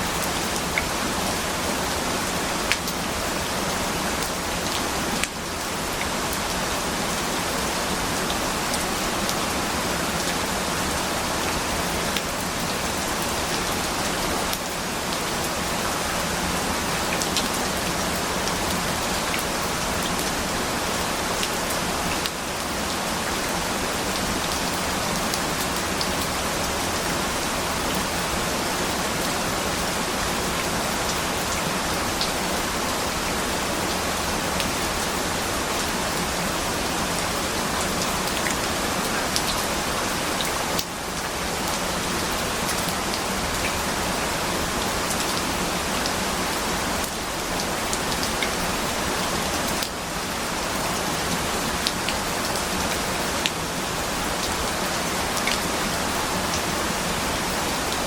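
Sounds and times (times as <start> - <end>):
dense rain falling: 0.0 - 58.0.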